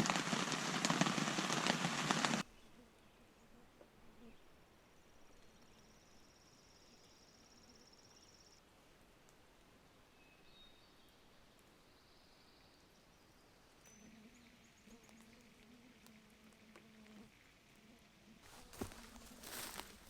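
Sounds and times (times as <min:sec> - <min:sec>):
small wildlife trills and chirps: 0:00.2 - 0:08.6, 0:10.0 - 0:20.0.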